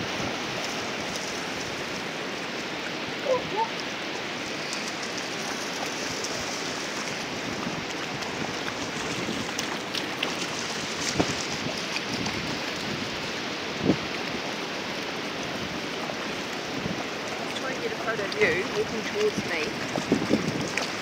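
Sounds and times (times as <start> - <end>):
water rushing in stream and surf: 0.0 - 21.0.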